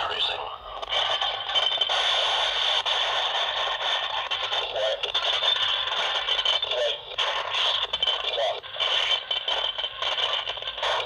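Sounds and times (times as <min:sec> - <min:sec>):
muffled audio from small speaker: 0:00.0 - 0:11.0.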